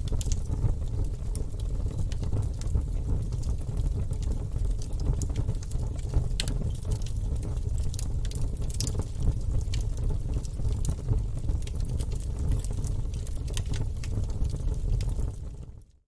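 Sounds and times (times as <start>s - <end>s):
log fire crackling: 0.0s - 15.8s.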